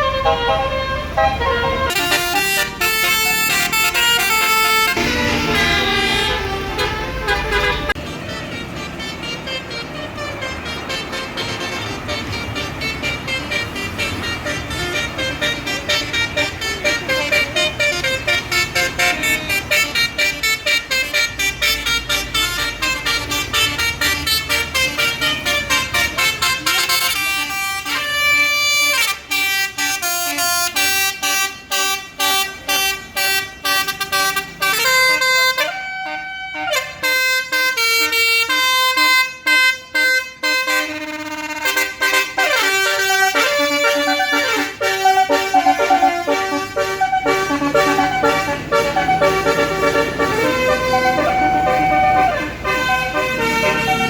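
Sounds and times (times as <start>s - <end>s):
low engine rumble: 0.0s - 54.0s
multi-tone bus horn melody: 0.0s - 54.0s.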